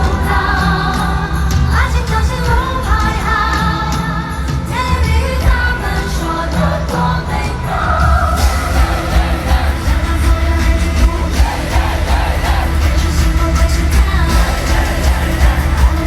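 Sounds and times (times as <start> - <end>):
band music with heavy bass: 0.0 - 16.0
person singing: 0.0 - 16.0.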